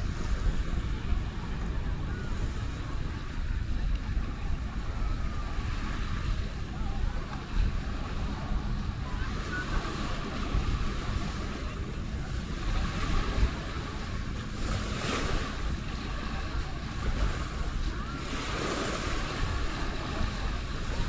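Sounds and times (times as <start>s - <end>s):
small waves washing on shore: 0.0s - 21.0s
wind buffeting microphone: 0.0s - 21.0s.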